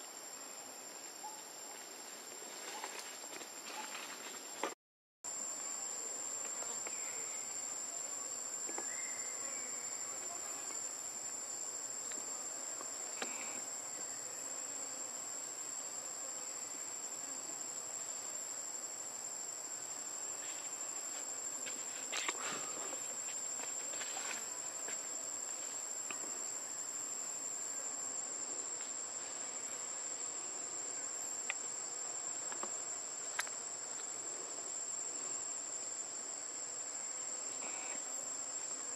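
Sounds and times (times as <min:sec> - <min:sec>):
insect chorus drone: 0:05.3 - 0:38.9.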